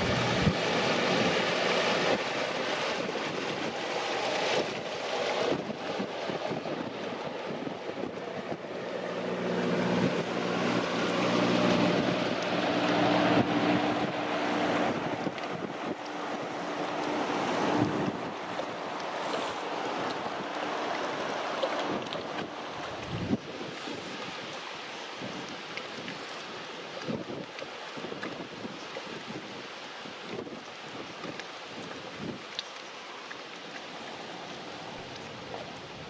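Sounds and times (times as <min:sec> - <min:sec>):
wind buffeting microphone: 0:00.0 - 0:32.6
boat engine humming: 0:00.0 - 0:36.0.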